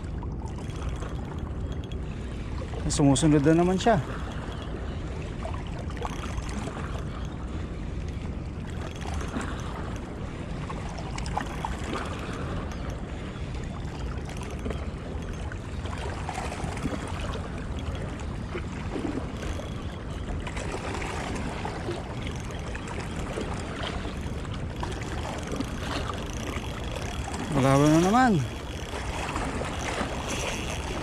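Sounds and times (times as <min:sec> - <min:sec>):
water lapping against boat hull: 0:00.0 - 0:31.0.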